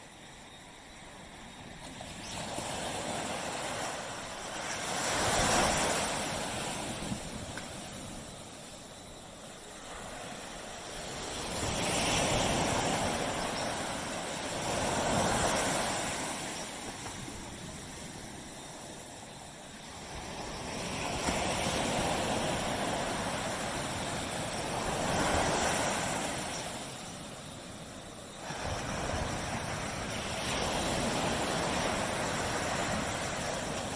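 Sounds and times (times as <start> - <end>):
small waves breaking on beach: 0.0 - 33.9.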